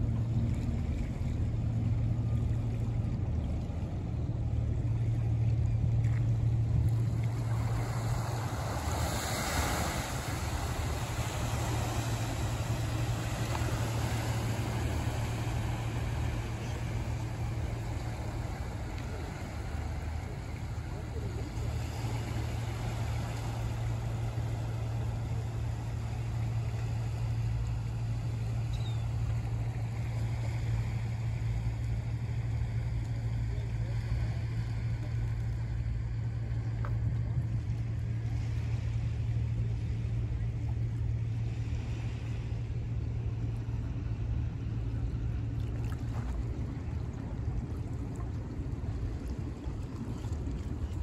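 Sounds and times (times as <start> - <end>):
boat engine drone: 0.0 - 51.0
wind and water noise: 0.0 - 51.0.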